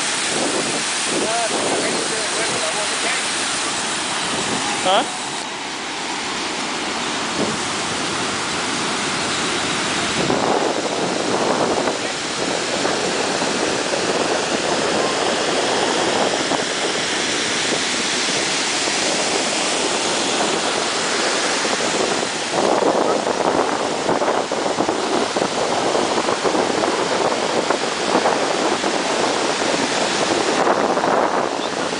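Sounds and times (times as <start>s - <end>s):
ocean surf breaking: 0.0s - 31.9s.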